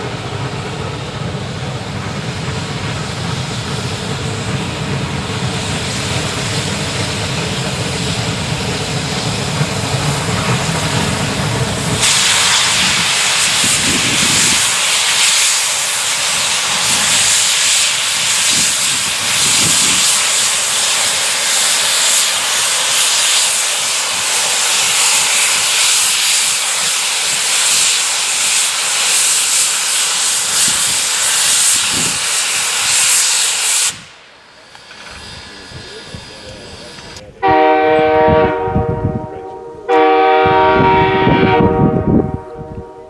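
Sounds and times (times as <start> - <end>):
steam locomotive hissing steam: 0.0 - 43.0.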